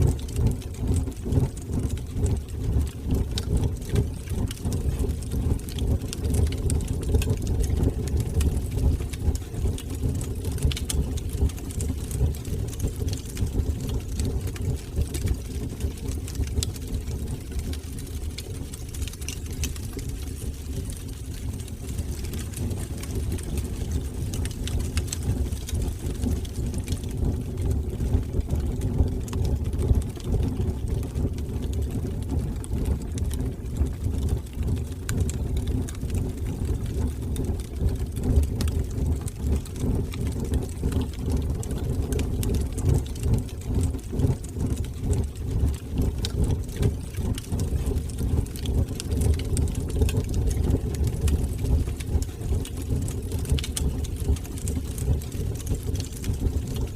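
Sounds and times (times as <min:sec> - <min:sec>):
fire crackles and pops: 0:00.0 - 0:56.9
fire rumbling in fireplace: 0:00.0 - 0:56.9.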